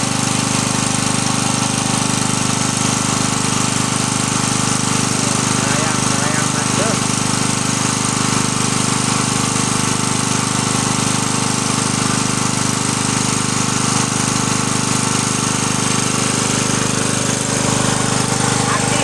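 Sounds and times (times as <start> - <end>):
generator running: 0.0 - 19.0.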